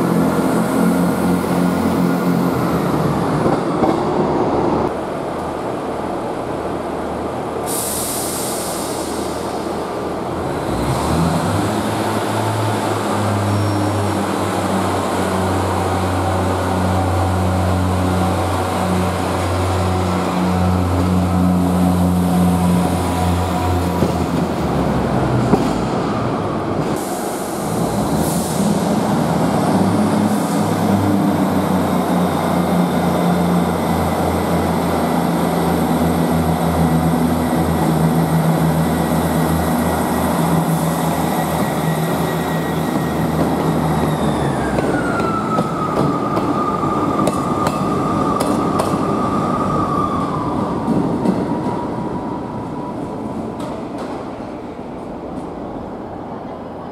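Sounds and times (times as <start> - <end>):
diesel train engines running: 0.0 - 56.9
train whine: 0.0 - 56.9.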